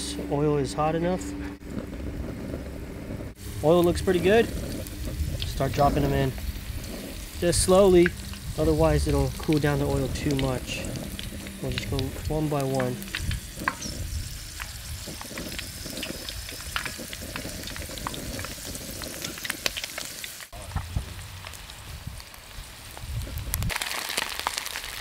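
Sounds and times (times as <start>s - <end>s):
oil sizzling and popping in wok: 3.3s - 25.0s.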